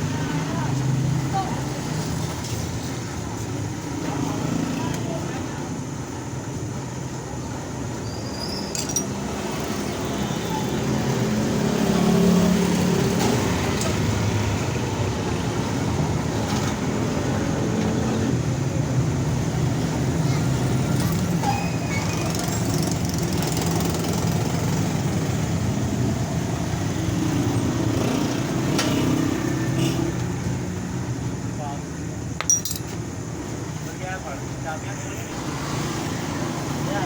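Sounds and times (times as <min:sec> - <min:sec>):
traffic noise: 0:00.0 - 0:37.0.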